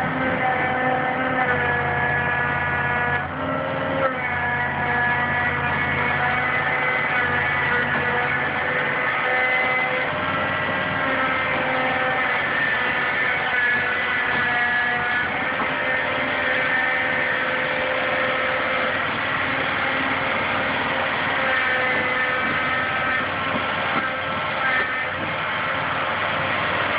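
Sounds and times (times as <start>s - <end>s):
diesel excavator engine running: 0.0s - 26.9s
hydraulic whining tones: 0.0s - 26.9s.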